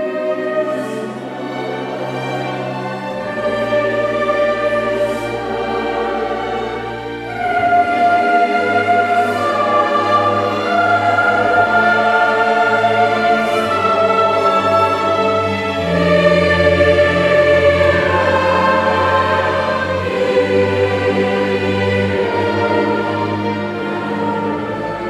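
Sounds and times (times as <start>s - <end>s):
chamber orchestra: 0.0s - 25.0s
choir singing: 0.0s - 25.0s.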